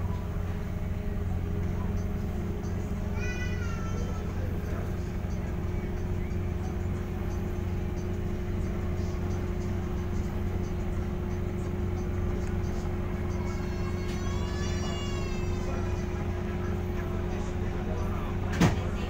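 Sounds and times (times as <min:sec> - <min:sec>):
ferry engines droning: 0:00.0 - 0:19.0.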